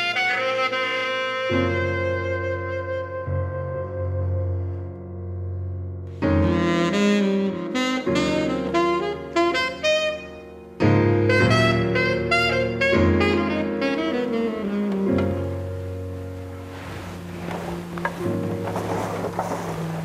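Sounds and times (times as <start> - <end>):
jazz saxophone melody: 0.0 - 5.3, 6.1 - 20.0.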